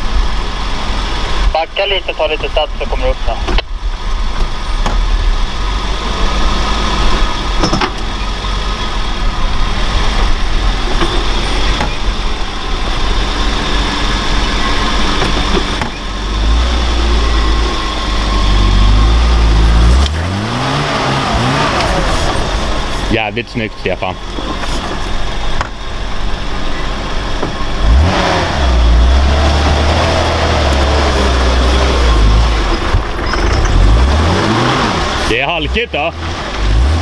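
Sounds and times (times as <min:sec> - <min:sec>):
vehicle engine driving hard: 0:00.0 - 0:37.0.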